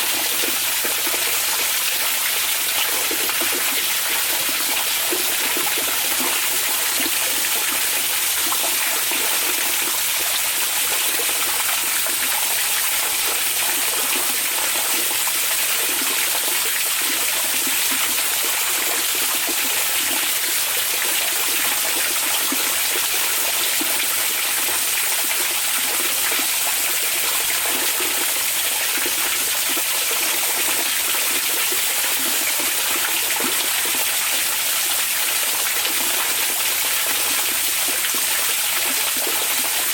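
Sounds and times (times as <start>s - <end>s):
water running steadily: 0.0s - 39.9s.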